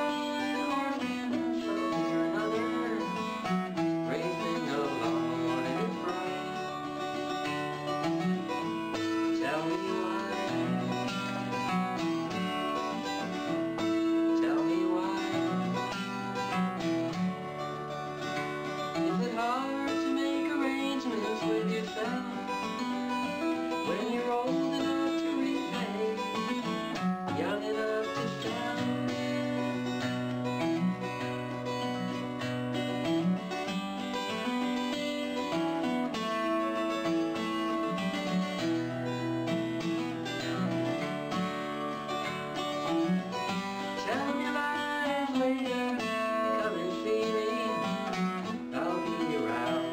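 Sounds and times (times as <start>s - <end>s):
acoustic guitar country tune: 0.0s - 49.9s.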